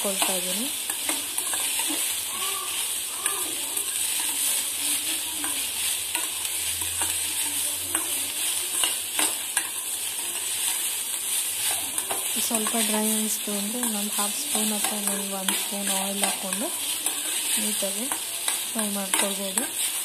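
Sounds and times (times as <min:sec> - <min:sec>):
spoon clicking and scraping pan: 0:00.0 - 0:20.0
vegetables sizzling in a pan: 0:00.0 - 0:20.0.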